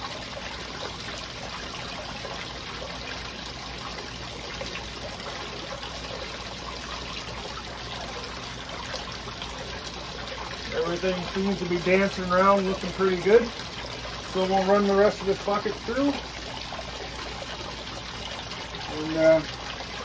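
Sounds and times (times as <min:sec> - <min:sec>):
water trickling down sluice: 0:00.0 - 0:20.0.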